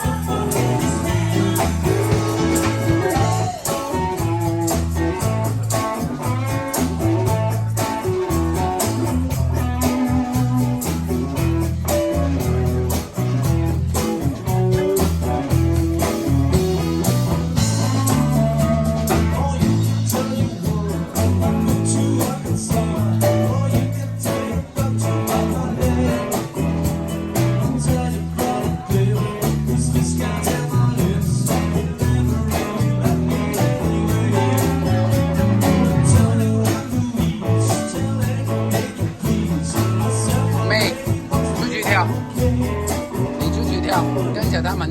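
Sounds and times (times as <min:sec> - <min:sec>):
blues rock guitar music: 0:00.0 - 0:44.9.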